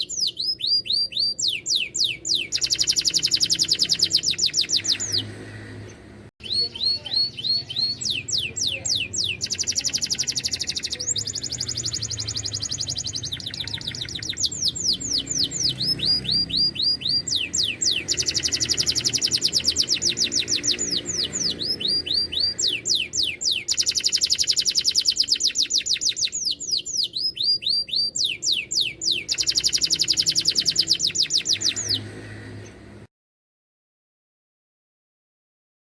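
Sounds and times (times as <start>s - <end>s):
canary singing trills: 0.0s - 33.0s.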